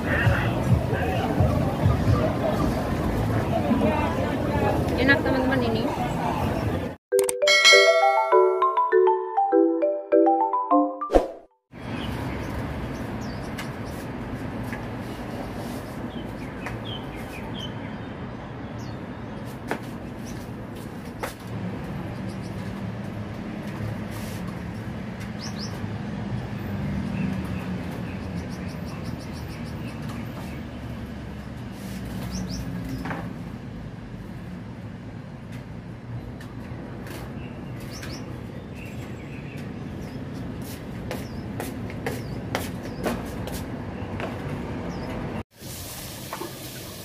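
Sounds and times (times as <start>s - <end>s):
caged birds chirping: 0.0s - 6.9s, 11.8s - 33.5s, 35.9s - 45.4s
low rumble of traffic: 0.0s - 7.0s, 11.7s - 47.0s.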